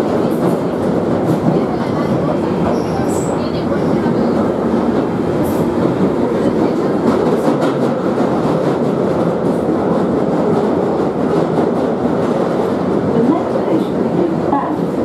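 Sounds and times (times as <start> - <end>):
train rumbling in tunnel: 0.0 - 15.0.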